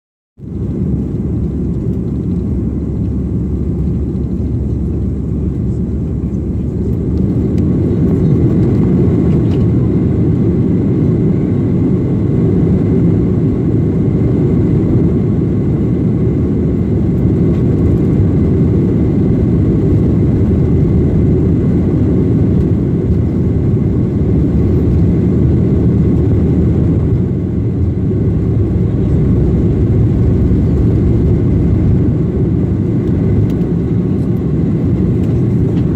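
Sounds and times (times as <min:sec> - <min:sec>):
jet engines low rumble: 0:00.4 - 0:35.9.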